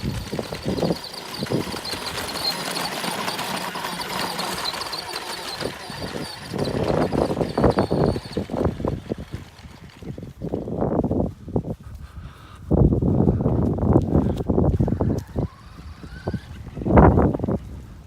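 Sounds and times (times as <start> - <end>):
electric motor whine: 0.0 - 10.8, 13.6 - 18.0
wheels rolling: 0.0 - 18.0.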